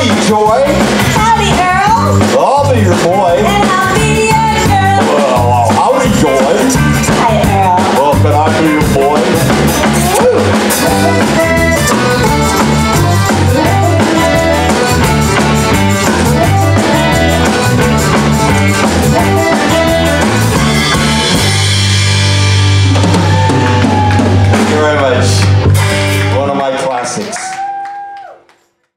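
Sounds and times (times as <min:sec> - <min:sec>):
live band music: 0:00.0 - 0:27.8.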